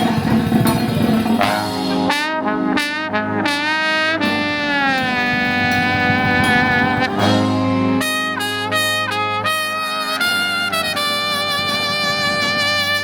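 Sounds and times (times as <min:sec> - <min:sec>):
jazz brass music: 0:01.3 - 0:13.0.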